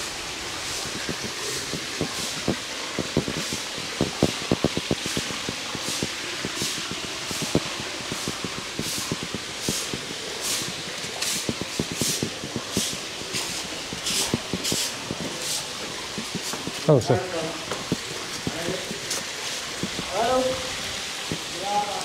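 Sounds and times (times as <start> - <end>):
broom sweeping stone steps: 0.0 - 21.5
footsteps on stone: 0.8 - 20.5.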